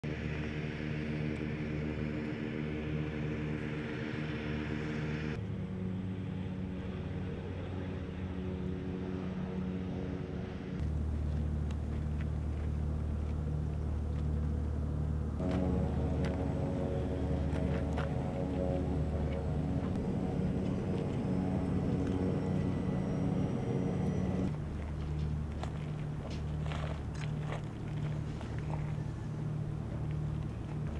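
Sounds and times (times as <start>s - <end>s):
engine humming: 0.0s - 30.9s.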